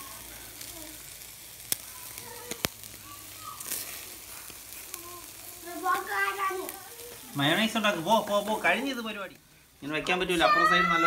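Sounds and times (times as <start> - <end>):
sharp pops from the grill: 0.0 - 9.0
chicken sizzling on a grill: 0.0 - 11.0.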